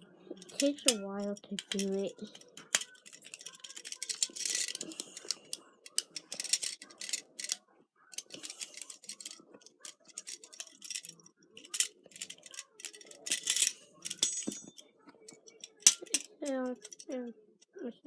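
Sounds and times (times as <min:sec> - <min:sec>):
handcuff lock clicks and rattles: 0:00.4 - 0:14.6, 0:15.3 - 0:17.2.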